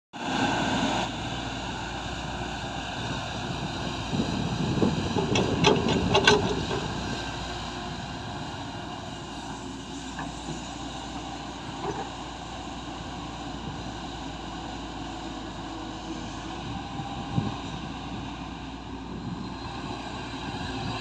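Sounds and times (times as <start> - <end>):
heavy machinery diesel engine: 0.2 - 21.0.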